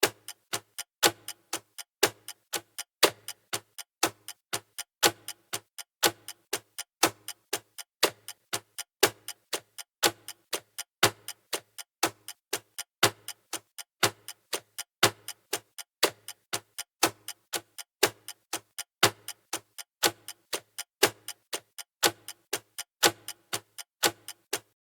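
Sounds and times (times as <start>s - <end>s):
clock ticking: 0.0s - 24.8s.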